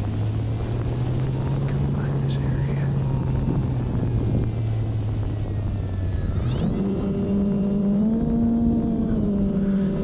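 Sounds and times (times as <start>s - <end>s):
model airplane motor humming: 0.0s - 10.0s
rushing wind: 0.0s - 10.0s.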